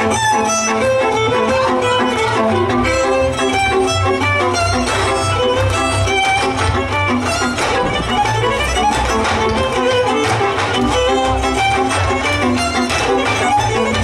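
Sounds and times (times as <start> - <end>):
string band dance music: 0.0 - 14.0.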